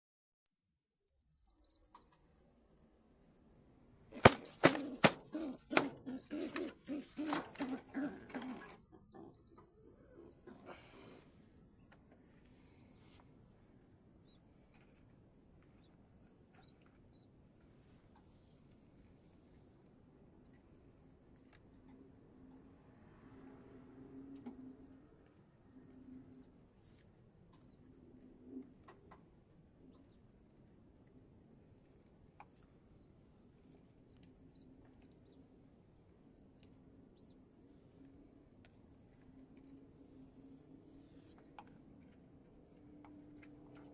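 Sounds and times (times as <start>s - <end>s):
crickets trilling: 0.5s - 43.9s.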